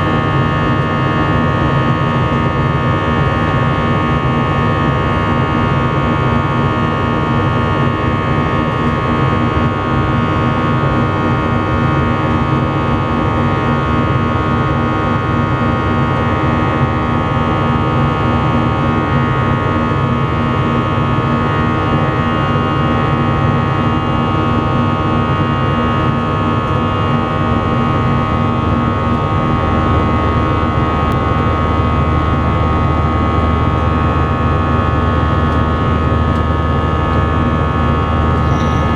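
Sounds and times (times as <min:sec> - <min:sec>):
jet engine cabin drone: 0:00.0 - 0:38.9.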